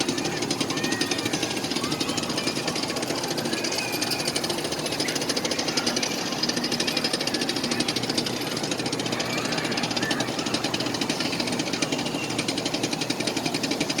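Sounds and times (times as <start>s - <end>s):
train rattling and clattering: 0.0s - 14.0s.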